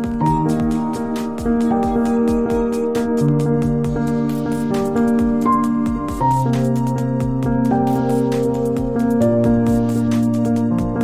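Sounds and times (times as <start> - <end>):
electronic chords over low beat: 0.0 - 11.0.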